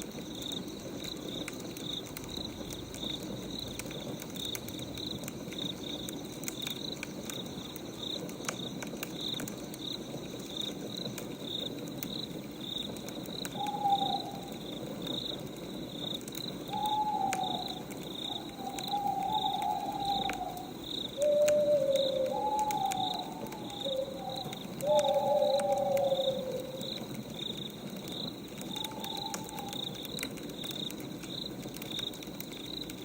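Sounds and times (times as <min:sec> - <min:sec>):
crickets chirping: 0:00.0 - 0:33.0
wood fire crackling: 0:00.0 - 0:33.0.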